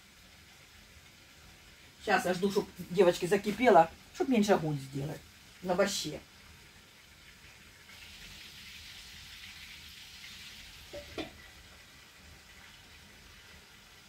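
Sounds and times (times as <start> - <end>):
cutlets sizzling in a frying pan: 0.0 - 14.0.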